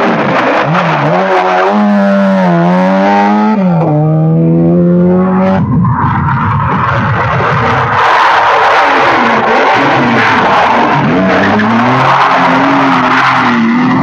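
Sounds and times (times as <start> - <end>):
rally car engine revving: 0.0 - 14.0
rushing noise: 0.0 - 14.0.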